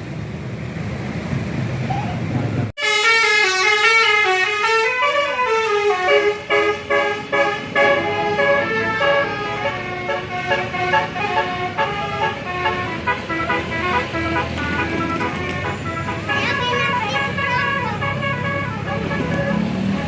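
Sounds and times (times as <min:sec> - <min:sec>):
multi-note bus horn playing a tune: 0:02.8 - 0:20.0.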